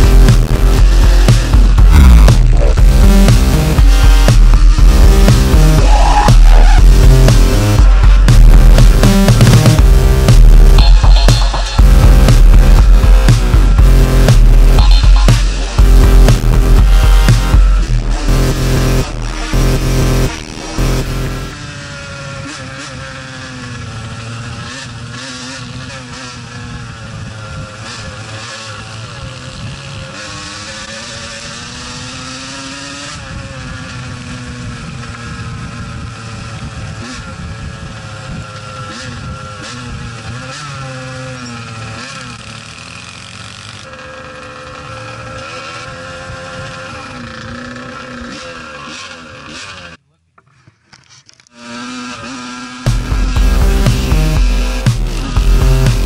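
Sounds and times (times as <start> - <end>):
two-stroke engine revving: 0.0 - 50.0, 51.5 - 56.0.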